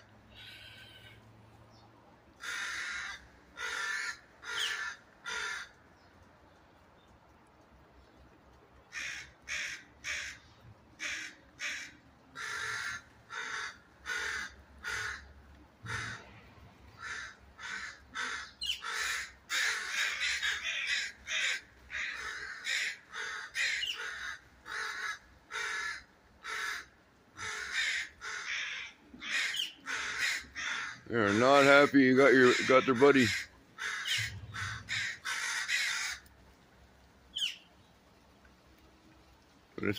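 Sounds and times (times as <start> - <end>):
crows cawing: 0.0 - 1.2, 2.4 - 5.8, 8.9 - 36.3.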